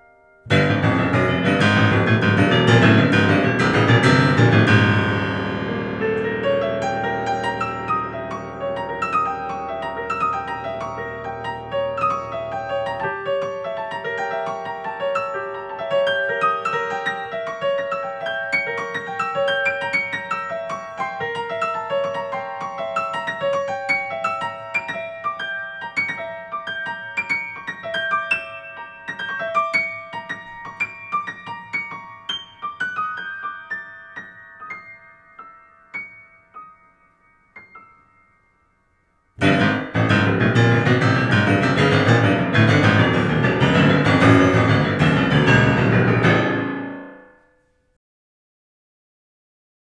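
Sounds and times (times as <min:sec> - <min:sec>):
piano notes: 0:00.0 - 0:47.9.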